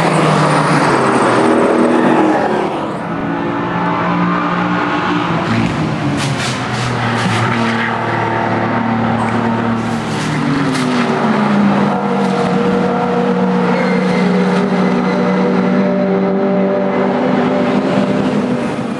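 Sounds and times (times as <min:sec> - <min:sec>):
race car engines running: 0:00.0 - 0:18.9.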